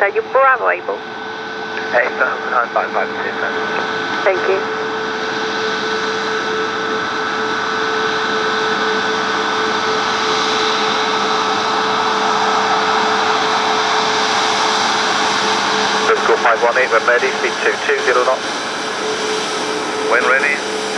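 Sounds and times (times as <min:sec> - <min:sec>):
jet engines roaring and whining: 0:00.0 - 0:20.9.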